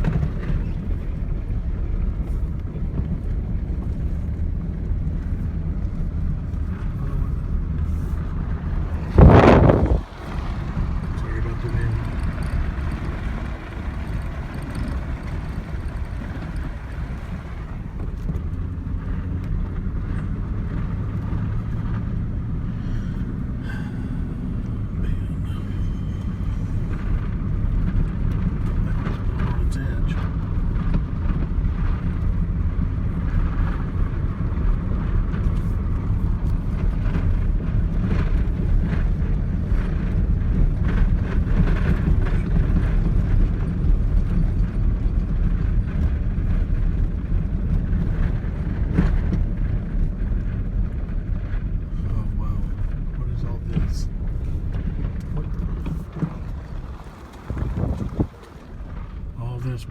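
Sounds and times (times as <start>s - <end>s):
vehicle rumbling on road: 0.0s - 59.9s.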